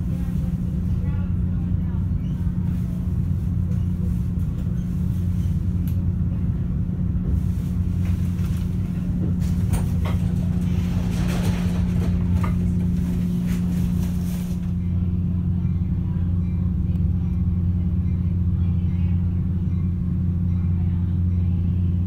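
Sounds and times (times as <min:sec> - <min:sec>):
train hum and rumble: 0:00.0 - 0:22.0.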